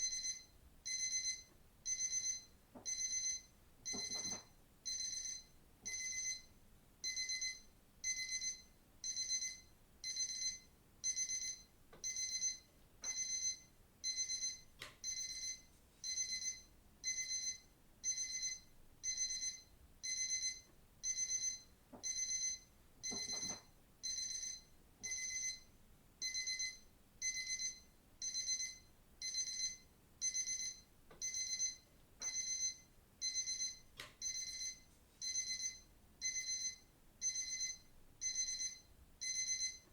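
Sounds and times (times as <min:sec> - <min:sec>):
digital watch alarm beeping: 0:00.0 - 0:25.6, 0:26.2 - 0:39.8.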